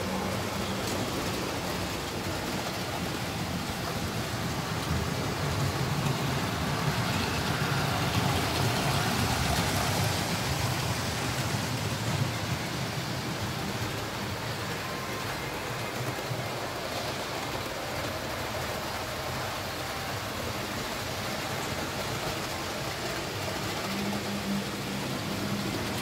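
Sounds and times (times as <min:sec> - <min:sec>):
model trains rumbling on track: 0:00.0 - 0:26.0.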